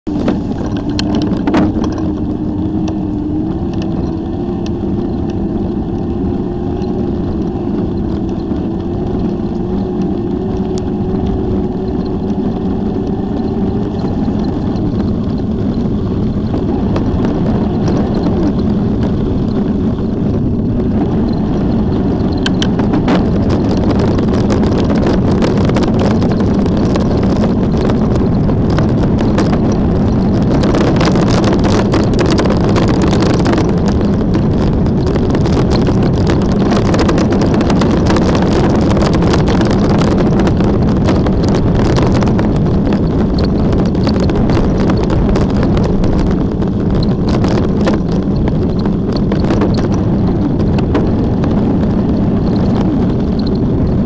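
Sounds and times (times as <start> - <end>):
low rumble: 0.0 - 54.0
wind buffeting microphone: 0.0 - 54.0.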